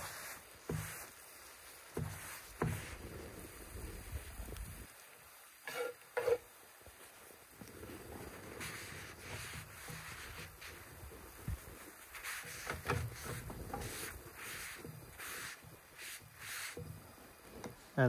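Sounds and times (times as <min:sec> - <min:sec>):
paper towel rubbing griddle: 0:00.0 - 0:04.8, 0:07.6 - 0:18.0
gas fire rumble: 0:00.0 - 0:05.4, 0:06.7 - 0:18.0
faint sizzle: 0:00.0 - 0:18.0.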